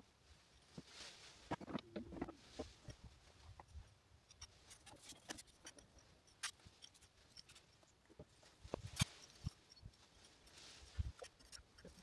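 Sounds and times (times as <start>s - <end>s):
faint clicks and ticks: 1.5s - 12.0s.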